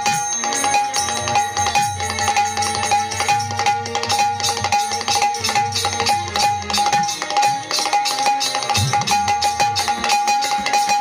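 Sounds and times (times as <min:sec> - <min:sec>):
background music with percussion: 0:00.0 - 0:11.0.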